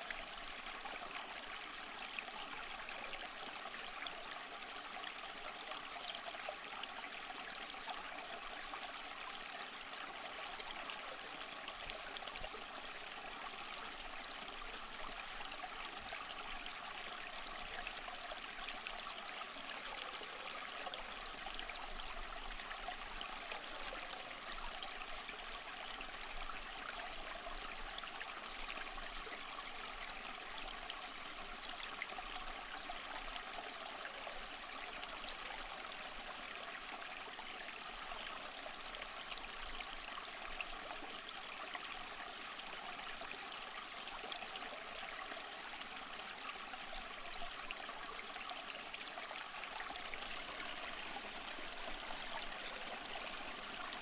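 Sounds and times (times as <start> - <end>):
stream of running water: 0.0 - 54.0.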